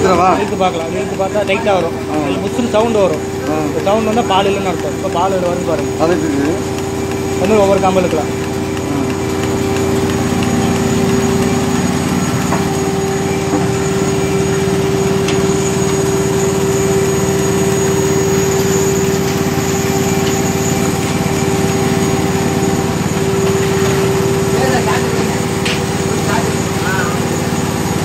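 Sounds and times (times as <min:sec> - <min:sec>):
vacuum pump humming: 0:00.0 - 0:28.0.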